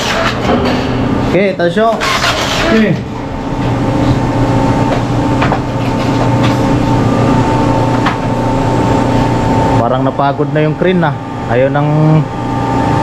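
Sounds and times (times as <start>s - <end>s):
electric hoist humming: 0.0s - 13.0s
thin high whine: 1.9s - 13.0s.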